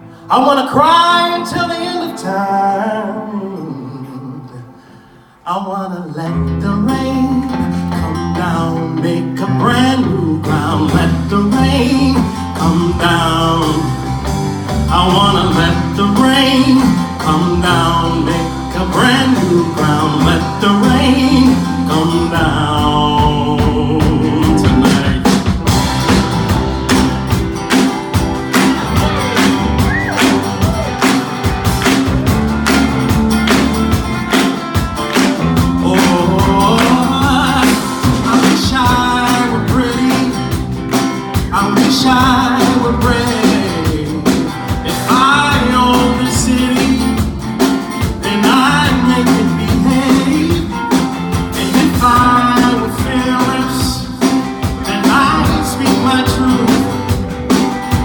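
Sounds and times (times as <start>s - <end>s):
person singing: 0.3s - 25.5s, 27.7s - 47.4s, 48.0s - 57.2s
live band music: 6.6s - 58.0s.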